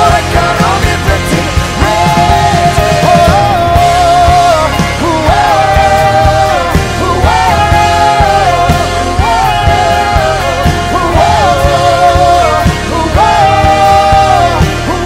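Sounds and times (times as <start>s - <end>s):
steady drum beat: 0.0s - 15.0s
worship band playing: 0.0s - 15.0s.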